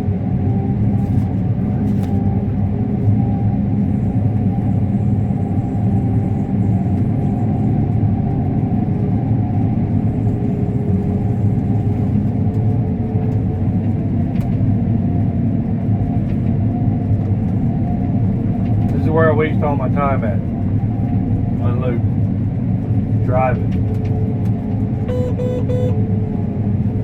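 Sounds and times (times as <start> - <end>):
combine harvester drone: 0.0 - 27.0.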